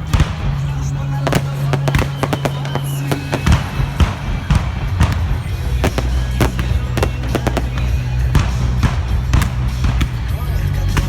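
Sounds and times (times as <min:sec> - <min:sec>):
fireworks bangs and crackling: 0:00.0 - 0:11.0
loud music with deep bass: 0:00.0 - 0:11.0.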